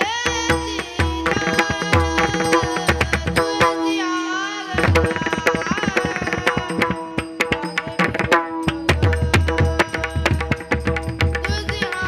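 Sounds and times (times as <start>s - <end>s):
person singing devotional song: 0.0s - 12.0s
sharp percussion beat: 0.0s - 12.0s.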